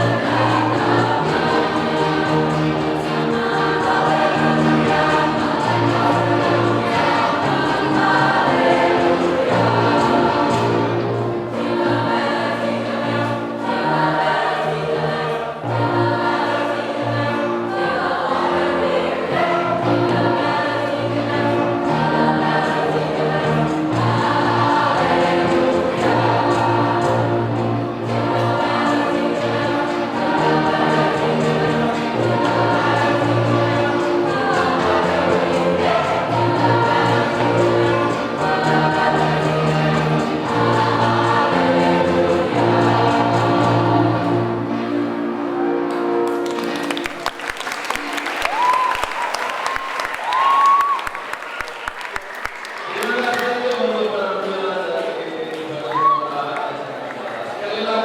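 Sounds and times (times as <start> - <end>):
mixed choir singing a hymn: 0.0 - 48.6
steady accompaniment: 0.0 - 48.8.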